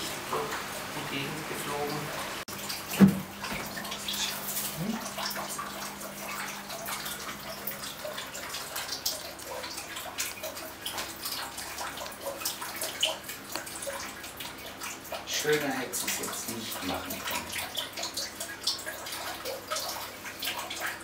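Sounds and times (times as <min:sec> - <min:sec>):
water splashing and dripping: 0:00.0 - 0:21.0.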